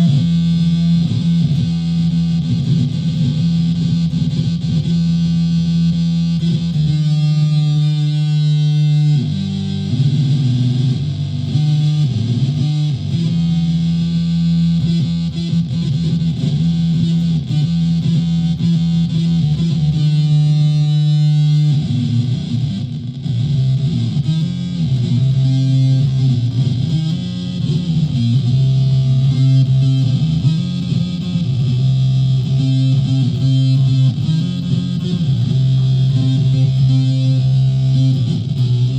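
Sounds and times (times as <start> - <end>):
distorted electric ukulele: 0.0 - 38.9.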